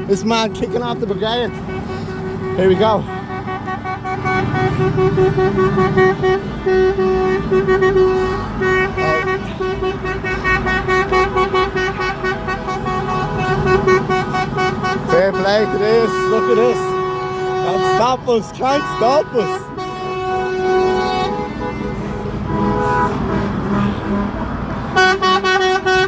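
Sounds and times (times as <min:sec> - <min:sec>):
heavy engines rumbling: 0:00.0 - 0:26.0
truck horns honking: 0:00.0 - 0:26.0.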